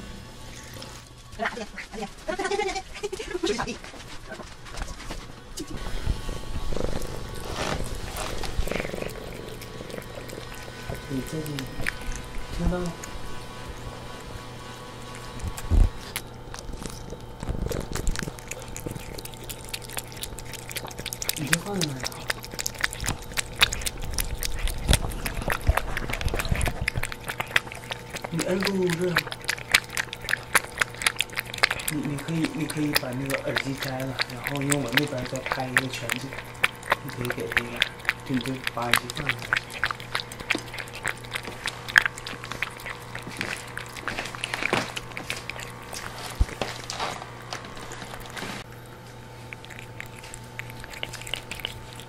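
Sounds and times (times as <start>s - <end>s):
cat chewing from metal bowl: 5.7s - 52.0s.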